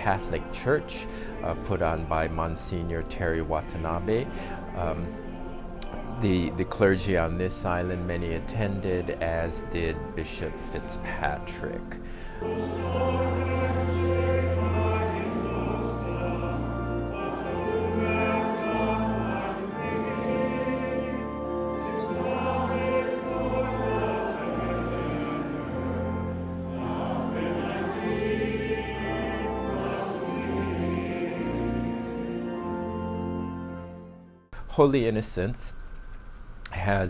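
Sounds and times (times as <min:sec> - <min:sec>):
choir singing long chords: 0:00.0 - 0:09.4, 0:11.3 - 0:34.4.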